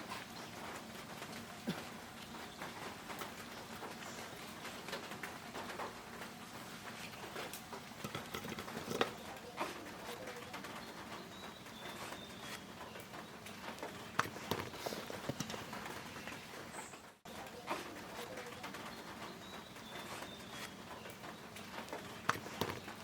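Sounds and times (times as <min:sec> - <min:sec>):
doves cooing faintly: 0:00.0 - 0:23.0
irregular clicks and knocks: 0:00.3 - 0:23.0.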